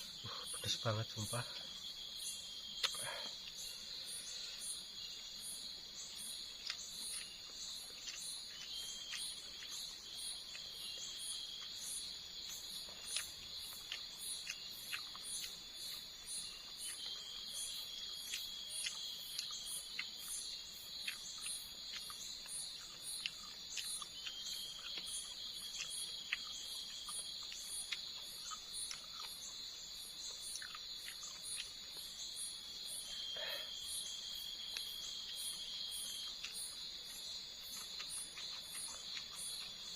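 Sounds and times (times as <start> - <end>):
crickets buzzing: 0.0 - 39.9
pulsing high insect call: 0.0 - 39.9.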